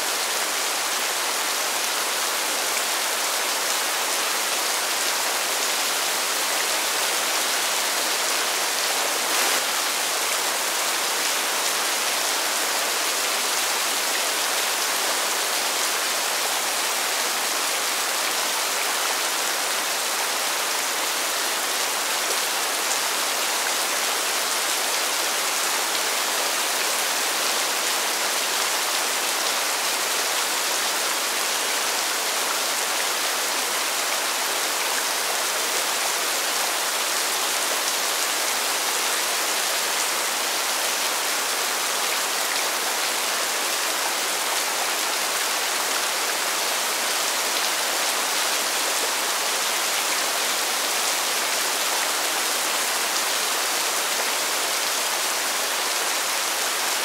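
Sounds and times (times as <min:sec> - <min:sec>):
rain falling on pavement: 0:00.0 - 0:57.0.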